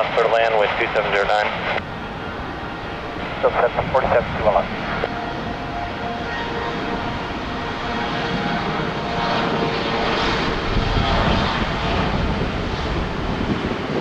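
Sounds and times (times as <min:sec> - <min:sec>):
jet airliner engines: 0:00.0 - 0:14.0.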